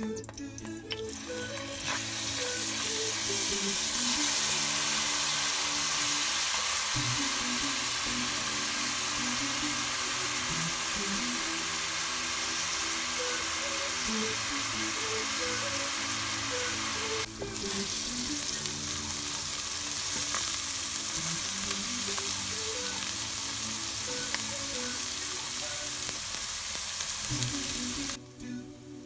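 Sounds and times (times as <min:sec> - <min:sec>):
onion sizzling in hot oil: 0:00.9 - 0:28.2.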